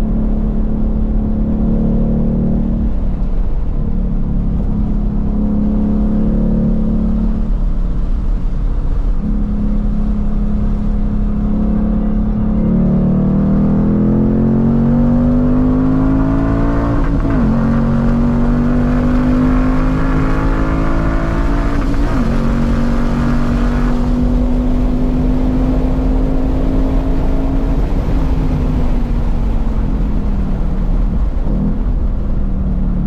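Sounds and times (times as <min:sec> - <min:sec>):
car engine at full throttle: 0:00.0 - 0:33.0.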